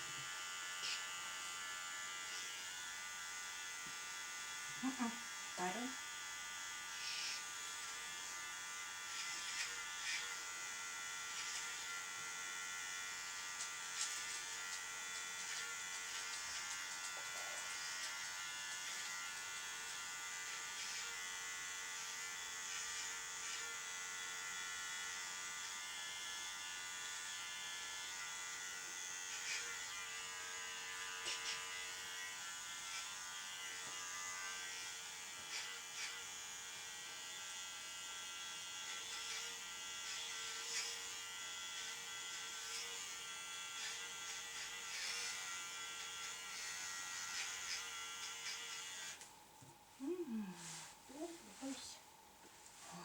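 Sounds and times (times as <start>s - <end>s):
electric clippers buzzing: 0.0s - 49.3s.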